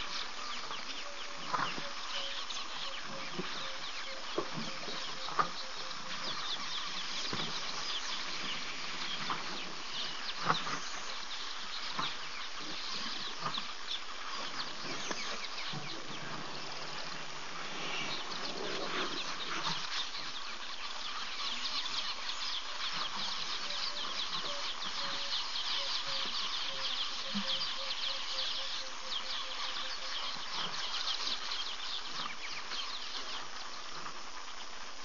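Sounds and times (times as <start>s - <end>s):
short bird calls: 0.0s - 31.6s
insect hum: 0.0s - 35.0s.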